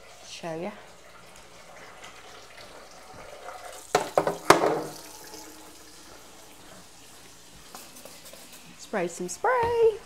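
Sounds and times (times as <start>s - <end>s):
tap water running into sink: 0.0s - 8.6s.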